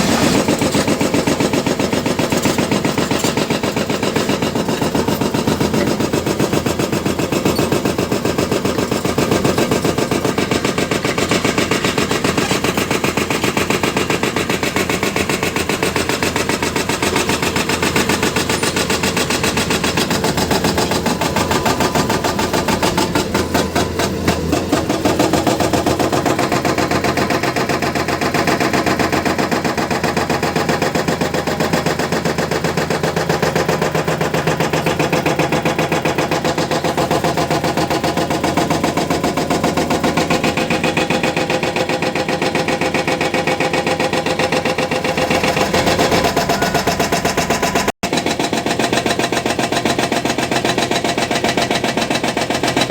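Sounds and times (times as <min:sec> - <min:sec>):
excavator diesel engine pulsing: 0:00.0 - 0:48.7.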